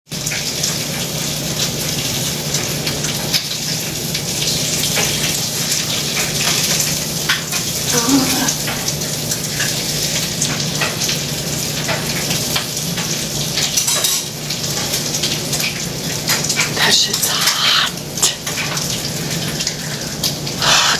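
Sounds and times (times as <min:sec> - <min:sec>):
food sizzling in a pan: 0:00.1 - 0:20.9.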